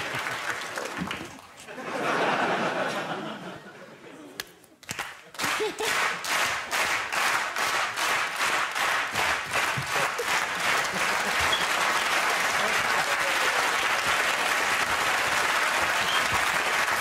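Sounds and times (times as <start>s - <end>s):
audience clapping in rhythm: 0.0s - 2.3s, 4.4s - 17.0s.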